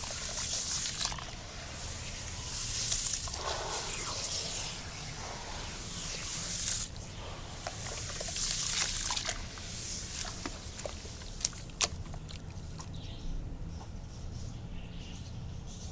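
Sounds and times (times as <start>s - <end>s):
concrete pouring into water: 0.0s - 12.8s.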